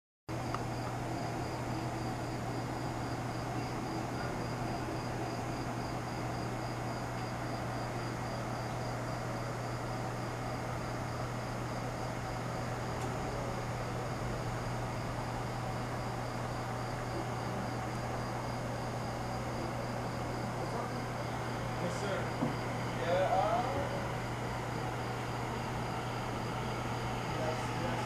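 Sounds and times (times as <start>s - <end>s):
crickets chirping: 0.3s - 28.0s.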